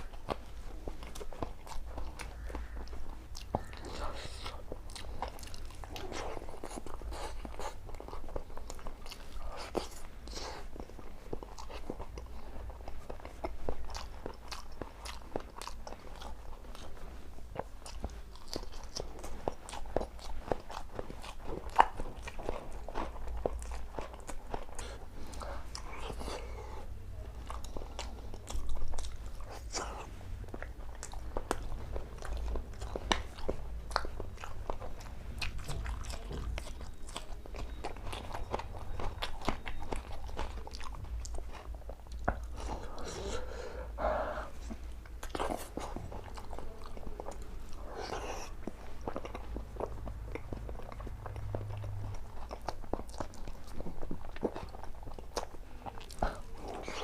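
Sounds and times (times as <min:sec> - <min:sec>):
chewing and crunching food: 0:00.0 - 0:57.0
steady low hum: 0:00.0 - 0:57.0.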